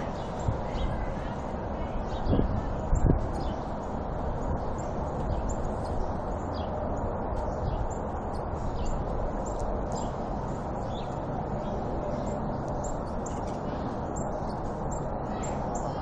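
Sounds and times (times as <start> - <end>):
low roaring noise: 0.0 - 16.0
small birds chirping: 0.0 - 16.0.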